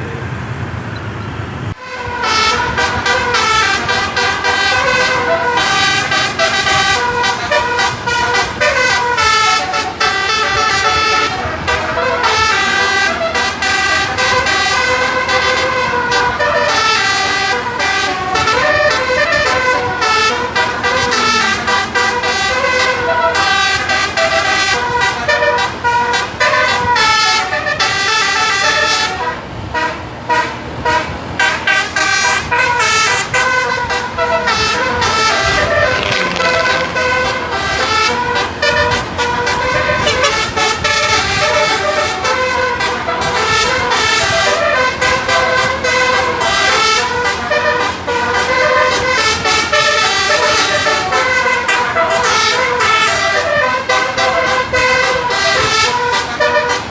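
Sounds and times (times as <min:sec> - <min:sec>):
bus horn playing melody: 0:01.8 - 0:56.9.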